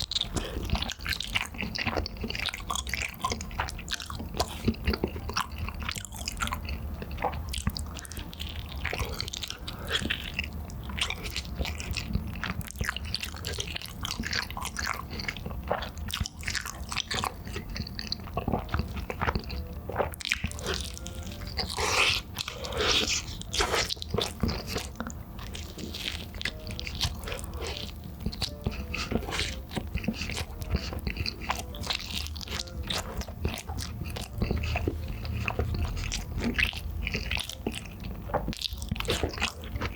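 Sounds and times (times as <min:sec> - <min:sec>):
crunchy biting and wet chewing: 0:00.0 - 0:39.9.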